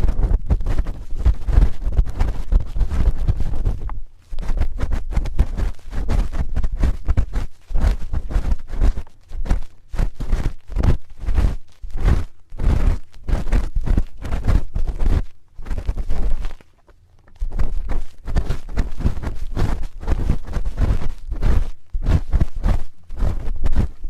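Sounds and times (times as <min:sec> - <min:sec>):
spoon scraping microphone: 0:00.0 - 0:24.0.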